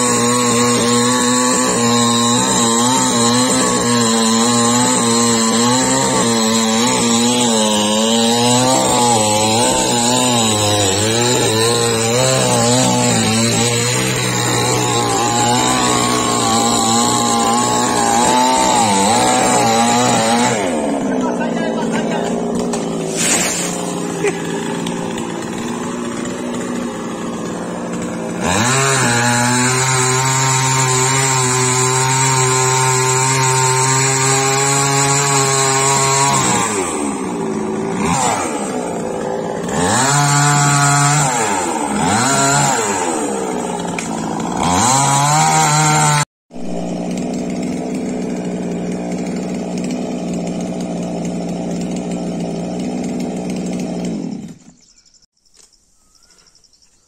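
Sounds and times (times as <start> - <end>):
chainsaw revving and cutting: 0.0 - 54.9.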